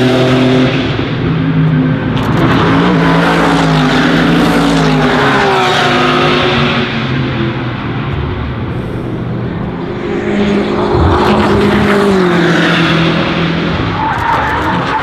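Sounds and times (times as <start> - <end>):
racing car engines passing: 0.0 - 15.0.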